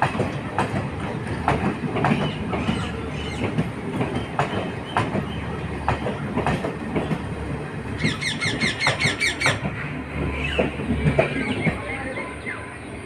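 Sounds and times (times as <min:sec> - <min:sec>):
train wheels clattering: 0:00.0 - 0:12.0.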